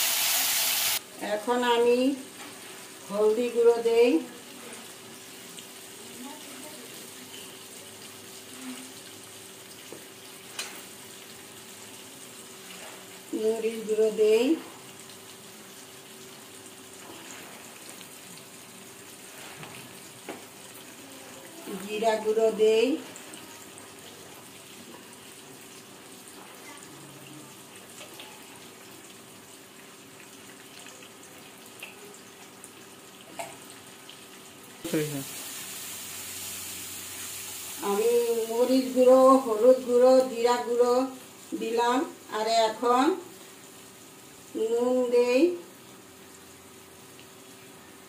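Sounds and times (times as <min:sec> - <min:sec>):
oil sizzling: 0:00.0 - 0:48.0.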